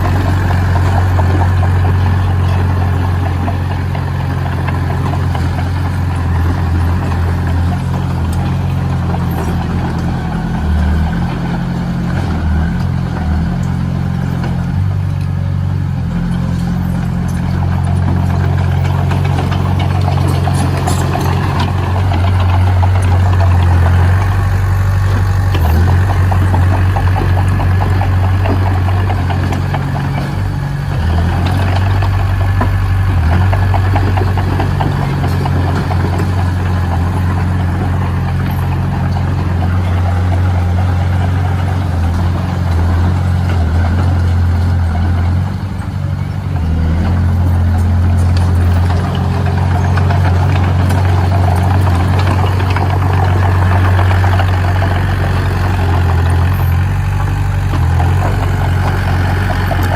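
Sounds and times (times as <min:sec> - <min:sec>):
heavy machine engine humming: 0:00.0 - 0:59.9.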